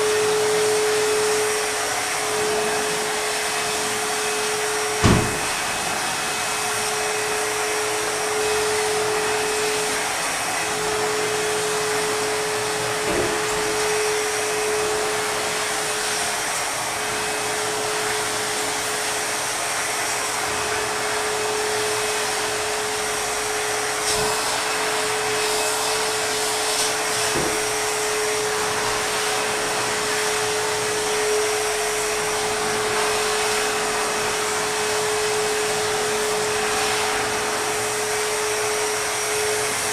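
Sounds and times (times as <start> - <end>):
backpack vacuum cleaner running: 0.0 - 39.9.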